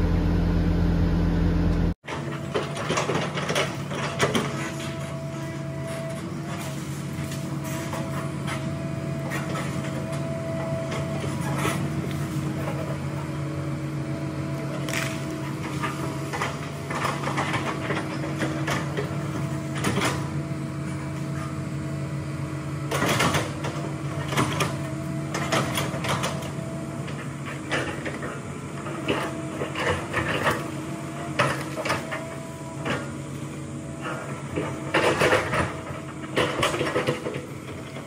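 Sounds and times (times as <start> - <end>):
excavator diesel engine running: 0.0 - 38.0
knocks and creaks of tracks: 1.7 - 13.3, 14.6 - 21.5, 22.9 - 38.0.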